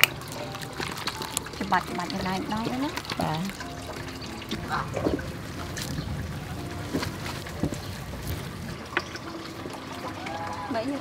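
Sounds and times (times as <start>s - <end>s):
hands squelching wet coconut: 0.0s - 11.0s
liquid trickling: 0.0s - 11.0s.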